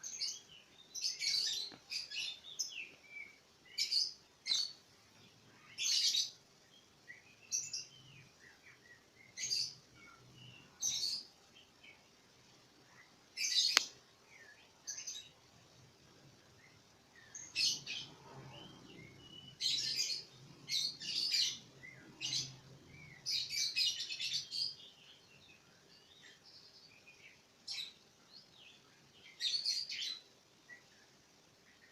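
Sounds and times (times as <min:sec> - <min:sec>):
songbird chirping: 0:00.0 - 0:31.9.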